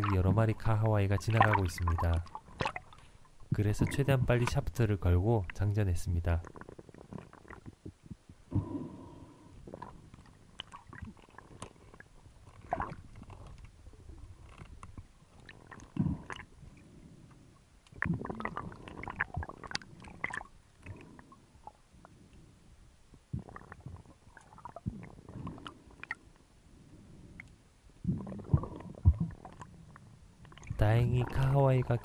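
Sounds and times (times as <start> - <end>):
underwater sloshing and rumbling: 0.0 - 32.0.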